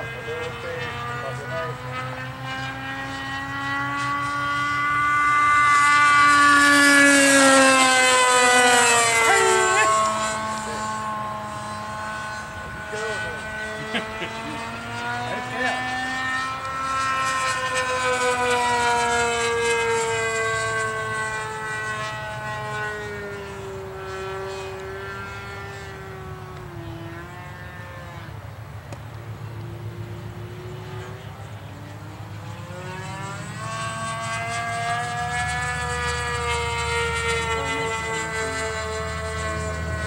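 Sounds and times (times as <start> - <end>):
model airplane motor droning: 0.0 - 40.0.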